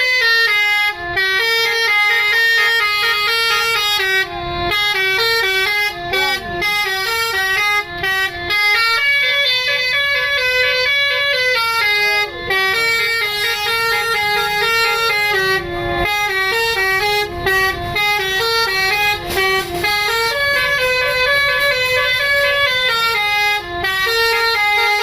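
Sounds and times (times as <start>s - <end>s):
musical bus horn playing a tune: 0.0s - 25.0s.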